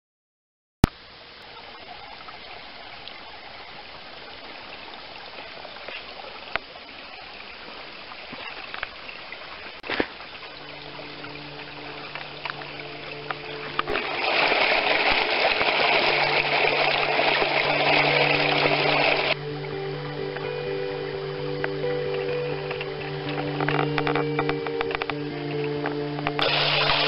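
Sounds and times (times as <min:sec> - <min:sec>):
brook flowing over rocks: 0:00.9 - 0:19.4, 0:22.1 - 0:27.0.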